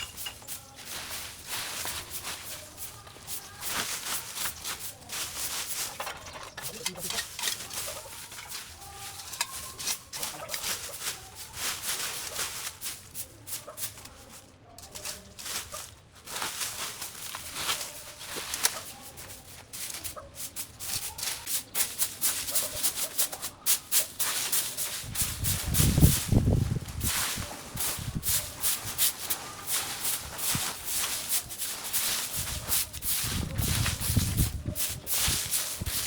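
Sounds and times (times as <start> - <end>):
dry vegetation rustling and crackling: 0.0 - 36.0.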